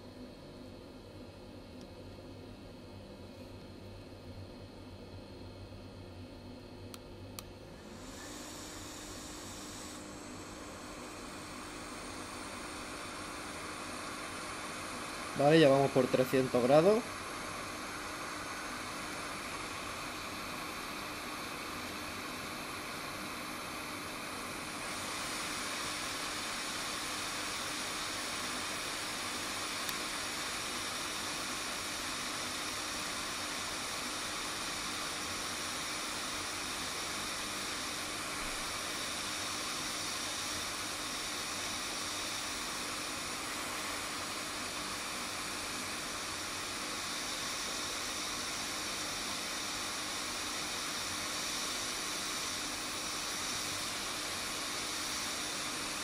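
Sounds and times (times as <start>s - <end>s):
hot air hissing: 7.8s - 56.0s.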